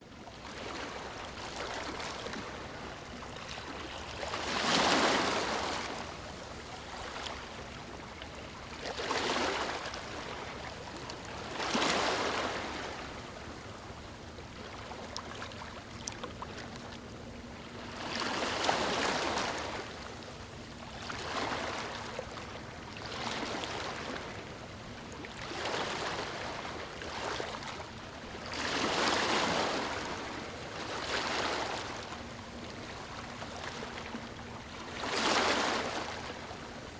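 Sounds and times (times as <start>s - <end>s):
sea waves breaking: 0.4s - 36.9s.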